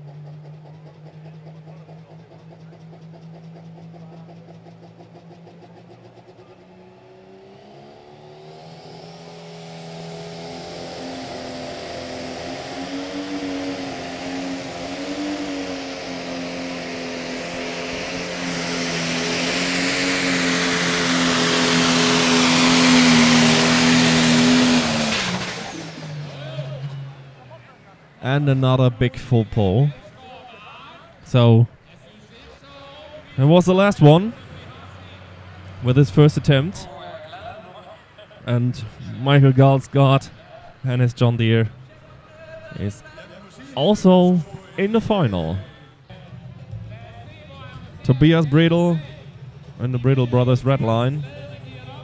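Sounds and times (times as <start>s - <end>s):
tractor diesel engine revving: 0.0s - 31.8s, 32.4s - 45.8s, 47.5s - 52.0s.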